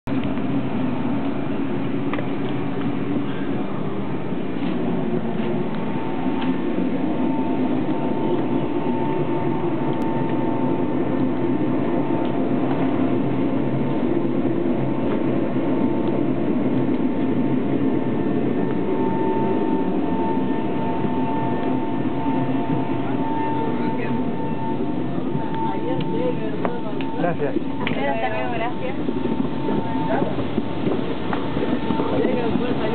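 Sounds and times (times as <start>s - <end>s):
jet turbine running: 0.1s - 32.9s.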